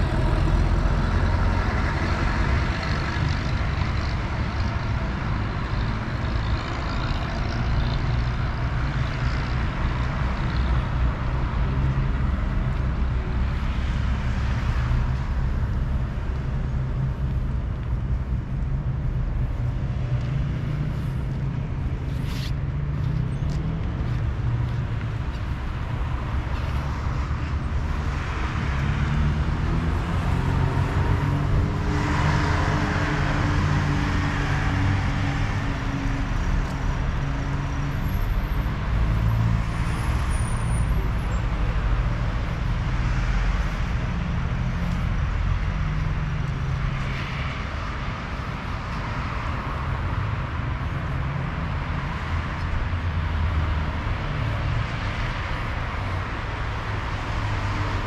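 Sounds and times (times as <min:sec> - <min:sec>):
street traffic rumble: 0:00.0 - 0:58.0.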